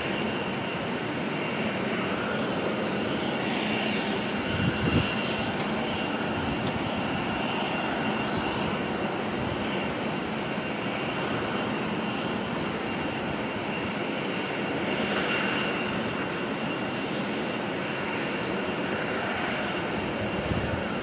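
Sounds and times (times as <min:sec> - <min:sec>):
distant aircraft engine drone: 0:00.0 - 0:21.0.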